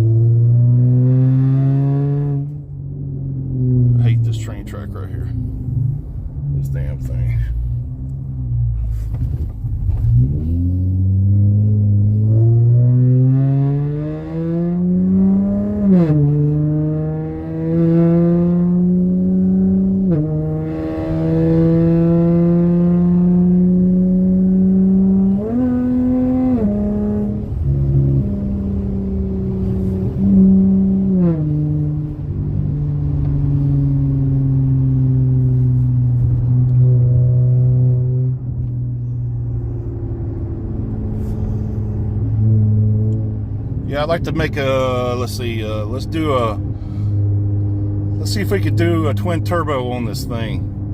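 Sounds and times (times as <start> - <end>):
car engine accelerating through gears: 0.0 - 50.9.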